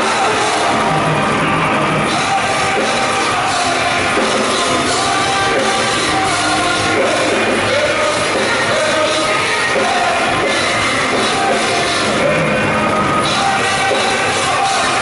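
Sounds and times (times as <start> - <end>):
heavy rock band playing: 0.0 - 15.0
man singing: 0.0 - 15.0.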